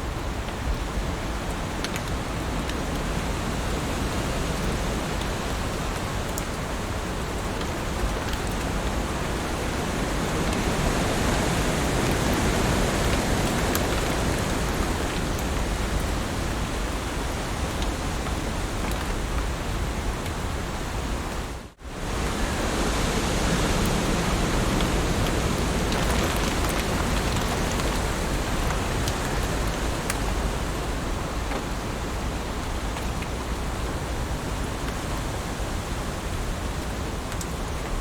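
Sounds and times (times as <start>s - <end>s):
heavy rain on leaves: 0.0s - 38.0s.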